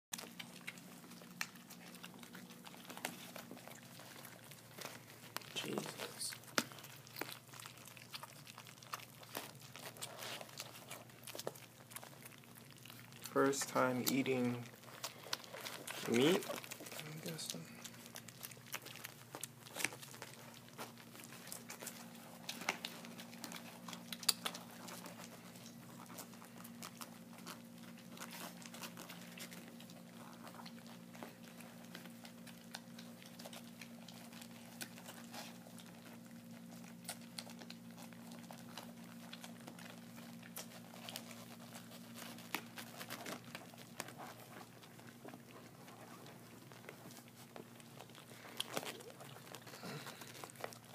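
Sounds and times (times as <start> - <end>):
puppies smacking while eating: 0.1 - 50.9
paws scuffling on blanket: 0.2 - 50.9.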